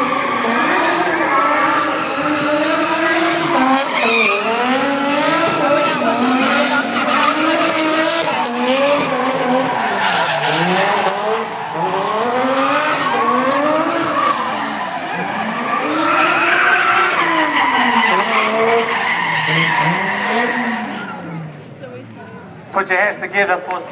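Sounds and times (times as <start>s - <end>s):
car engine revving: 0.0s - 21.7s
tyres squealing and skidding: 0.0s - 22.8s.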